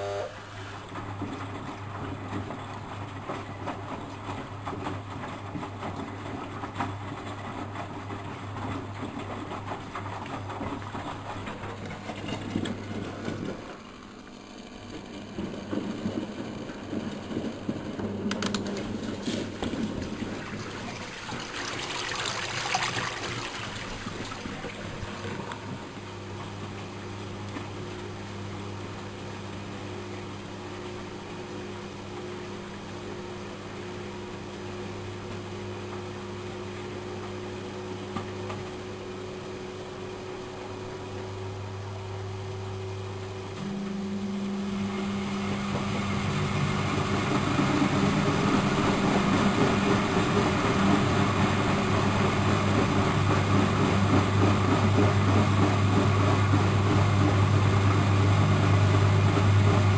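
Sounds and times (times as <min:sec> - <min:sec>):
washing machine humming: 0:00.0 - 0:59.9
washing machine drum spinning: 0:00.5 - 0:59.9.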